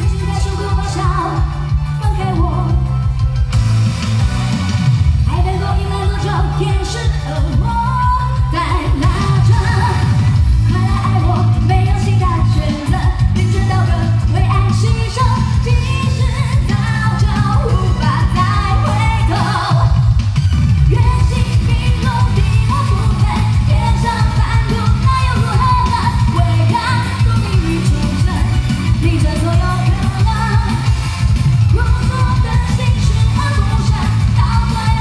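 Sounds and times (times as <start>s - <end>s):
woman singing into a microphone: 0.0s - 2.9s, 5.3s - 20.1s, 20.9s - 30.9s, 31.7s - 35.0s
pop music with heavy bass beat: 0.0s - 35.0s.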